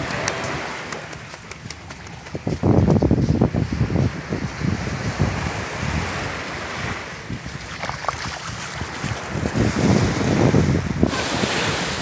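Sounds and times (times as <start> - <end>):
surf on sandy beach: 0.0 - 12.0
wind buffeting microphone: 0.0 - 12.0.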